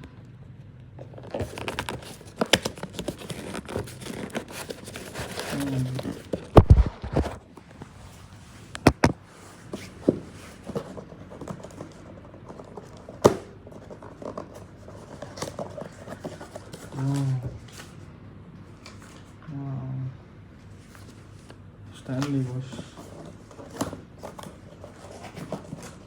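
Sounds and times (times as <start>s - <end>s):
box and packing handled: 0.9s - 18.0s, 20.8s - 26.0s.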